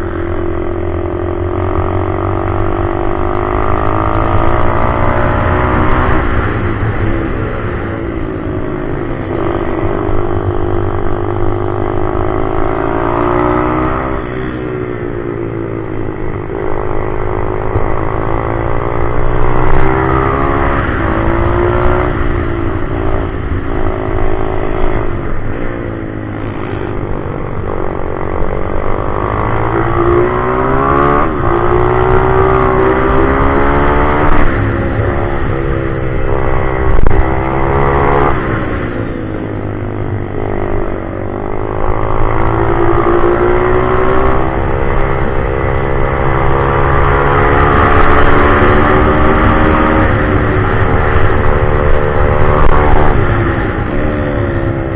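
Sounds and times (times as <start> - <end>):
motorbike engine revving: 0.0 - 54.9.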